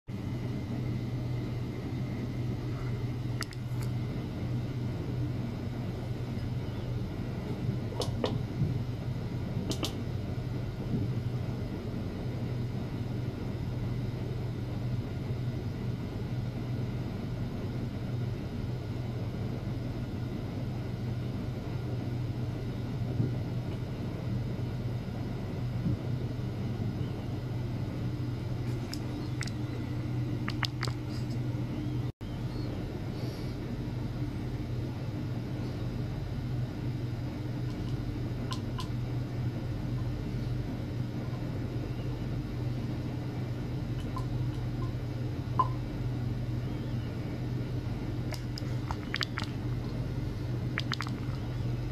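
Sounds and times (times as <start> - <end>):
low electrical hum: 0.1 - 51.9
rumbling background noise: 0.1 - 51.9.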